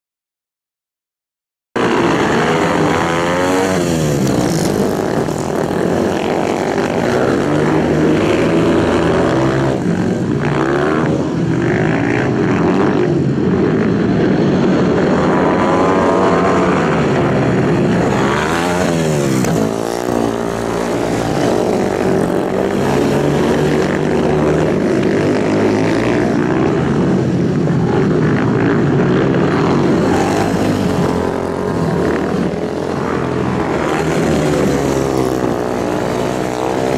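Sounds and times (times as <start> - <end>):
racing motorcycles revving past: 1.8 - 36.9.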